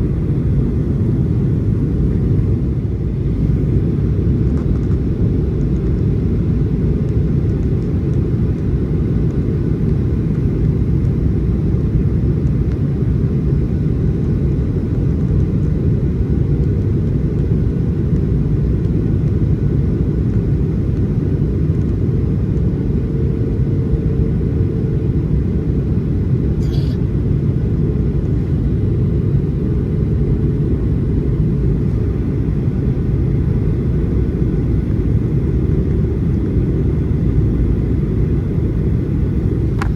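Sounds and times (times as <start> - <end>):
airliner engines and airflow rumble: 0.0 - 39.9.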